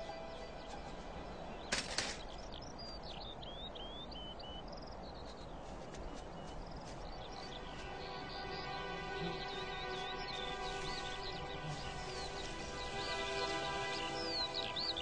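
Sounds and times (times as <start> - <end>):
soft outdoor rushing: 0.0 - 15.0.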